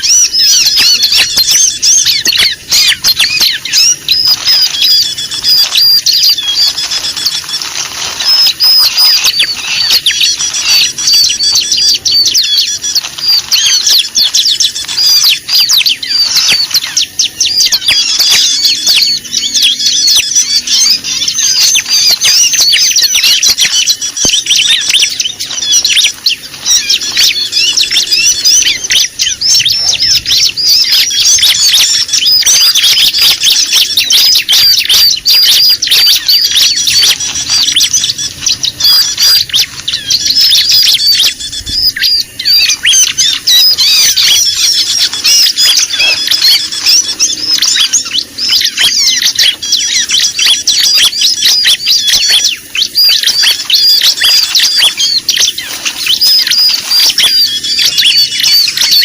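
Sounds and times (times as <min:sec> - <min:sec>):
songbirds chirping agitatedly: 0:00.0 - 0:59.0.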